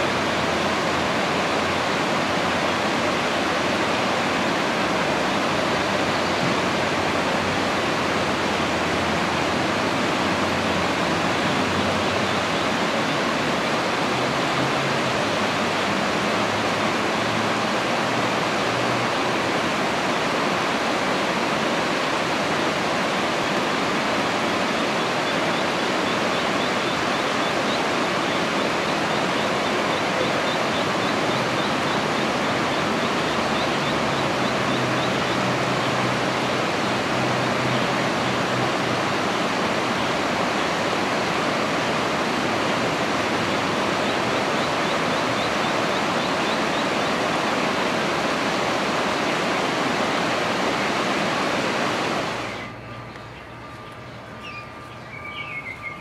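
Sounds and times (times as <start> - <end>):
river water rushing over shallows: 0.0 - 56.0.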